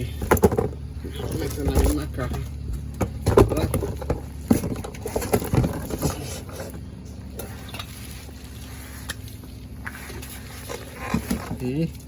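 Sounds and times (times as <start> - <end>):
knocks and rustles of handling: 0.0 - 12.0
low steady hum: 0.0 - 12.0.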